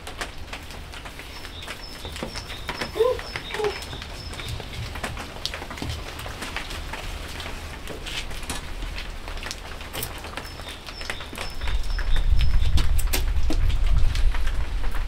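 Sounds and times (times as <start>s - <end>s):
light rain falling: 0.0s - 15.0s
raindrops ticking on surfaces: 0.0s - 15.0s.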